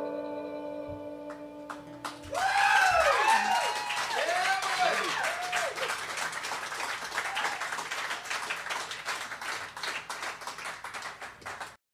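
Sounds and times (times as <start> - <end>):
audience clapping: 1.3 - 11.8.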